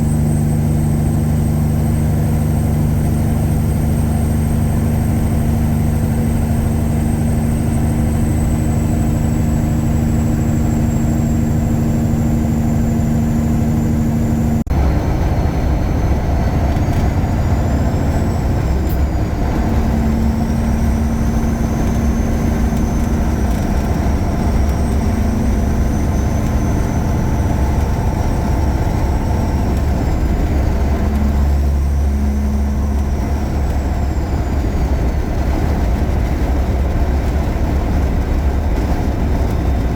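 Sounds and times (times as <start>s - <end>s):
high whine: 0.0s - 36.9s
heavy diesel truck engine: 0.0s - 39.9s.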